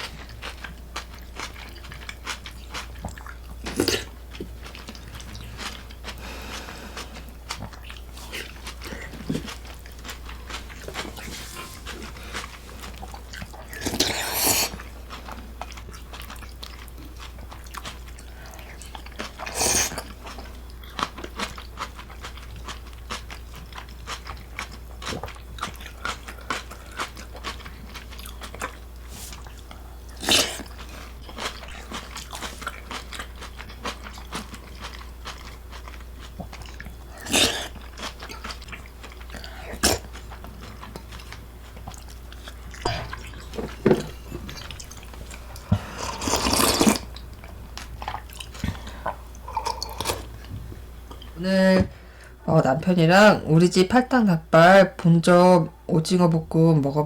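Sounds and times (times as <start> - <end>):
person biting and chewing food: 0.0 - 51.4.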